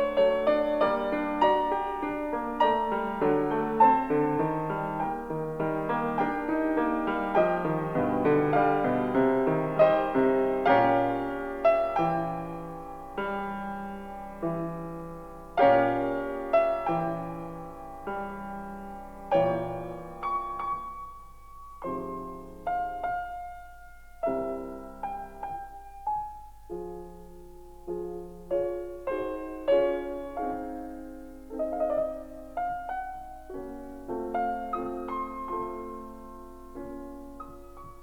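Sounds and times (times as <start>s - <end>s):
slow solo piano music: 0.0s - 38.0s.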